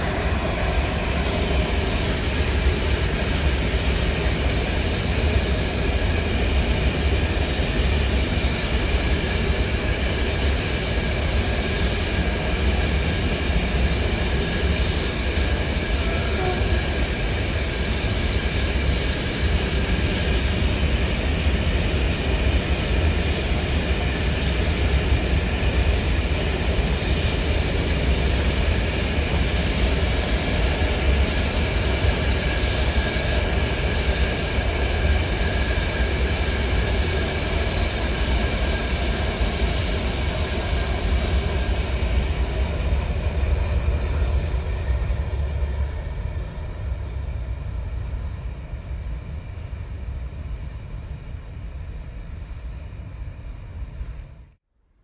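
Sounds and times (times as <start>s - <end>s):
train wheels rumbling on rail: 0.0s - 54.6s.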